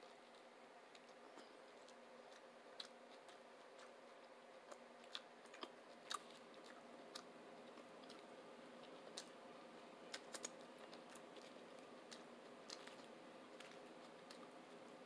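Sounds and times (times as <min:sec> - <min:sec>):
chewing with wet mouth clicks: 0:00.0 - 0:09.4, 0:10.1 - 0:14.9
steady low hum: 0:00.0 - 0:15.0.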